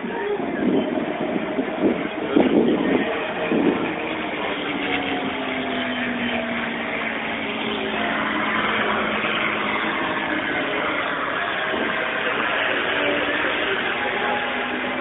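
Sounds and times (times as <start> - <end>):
propeller plane engine droning past: 0.0 - 15.0.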